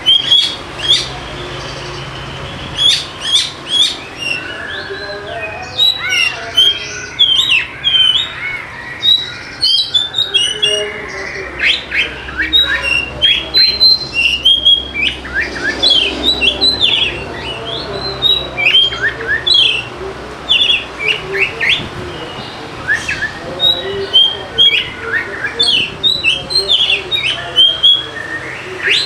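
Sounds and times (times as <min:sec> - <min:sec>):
bird singing whistled sweeps: 0:00.0 - 0:19.9, 0:20.5 - 0:29.0.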